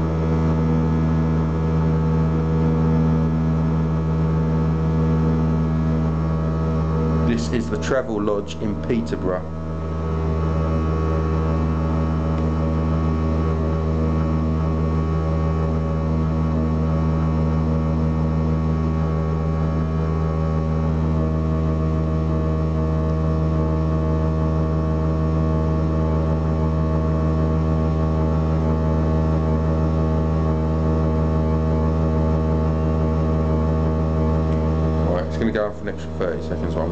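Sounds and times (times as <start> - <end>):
toilet plumbing humming drone: 0.0 - 36.9.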